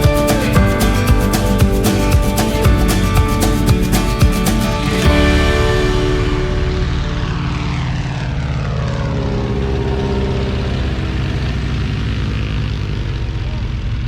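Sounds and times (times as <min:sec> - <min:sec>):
propeller airplane engine: 0:00.0 - 0:13.9.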